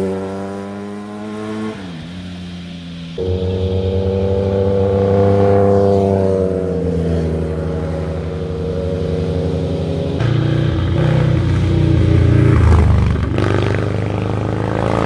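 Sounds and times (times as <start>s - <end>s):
deeper motorcycle engine: 0.0s - 15.0s
motorcycle passing at speed: 0.0s - 15.0s.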